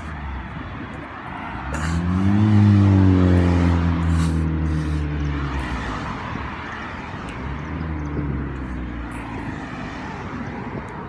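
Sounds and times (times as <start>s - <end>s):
motor vehicle passing by: 1.3s - 10.8s.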